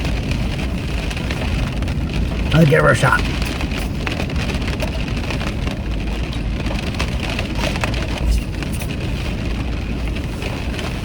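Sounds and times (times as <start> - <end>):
light rain pattering on a car: 0.0 - 11.0.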